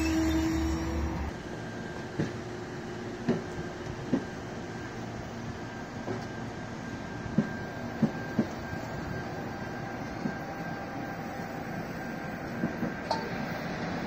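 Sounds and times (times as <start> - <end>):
train cars rolling rumble: 0.0 - 14.0.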